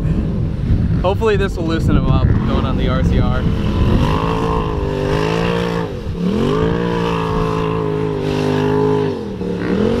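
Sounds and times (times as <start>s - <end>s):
turbocharged engine revving: 2.0s - 10.0s.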